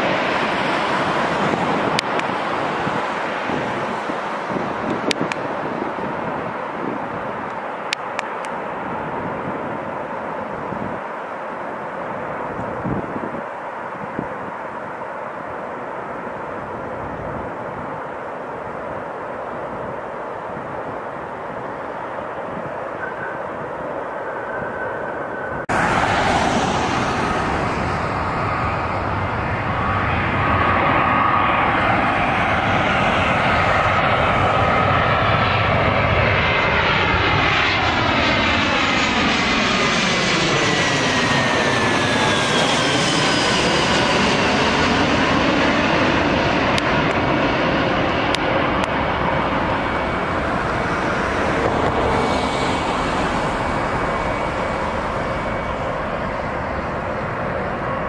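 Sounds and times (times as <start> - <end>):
jet airliner passing overhead: 0.0 - 58.0.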